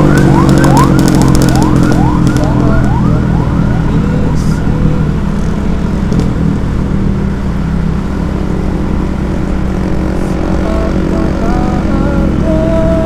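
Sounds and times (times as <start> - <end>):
road noise: 0.0 - 13.0
vehicle engine droning: 0.0 - 13.0.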